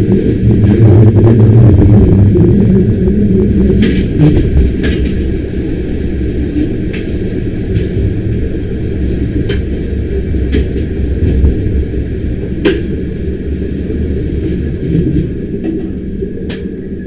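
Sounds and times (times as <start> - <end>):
train rumbling on track: 0.0 - 17.0
wheels clicking on rails: 0.0 - 17.0.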